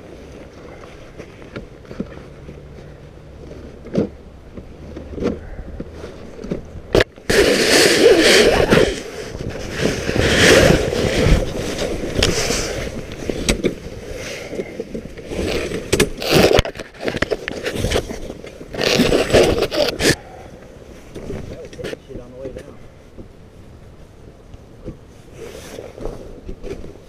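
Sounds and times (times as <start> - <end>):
fabric cover rustling and scraping: 0.0 - 20.2, 20.8 - 27.0.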